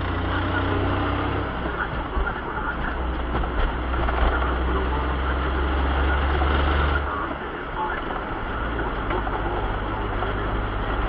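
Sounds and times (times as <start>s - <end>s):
engine and road drone: 0.0s - 11.0s
low engine shudder: 0.0s - 11.0s.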